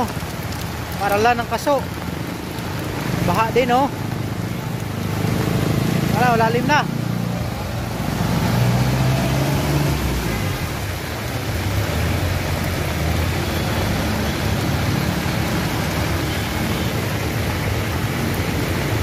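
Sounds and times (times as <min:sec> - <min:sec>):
heavy rain: 0:00.0 - 0:19.0
traffic engines running: 0:00.0 - 0:19.0.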